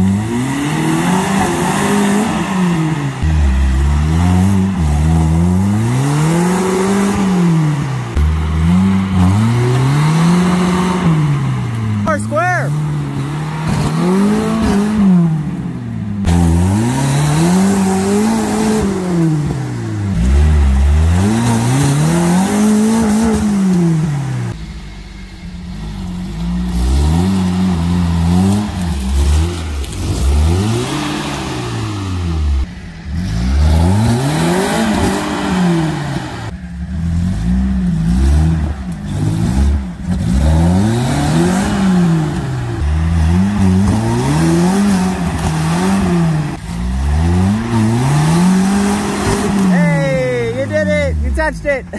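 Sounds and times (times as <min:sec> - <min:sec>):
jeep engine revving: 0:00.0 - 0:51.9.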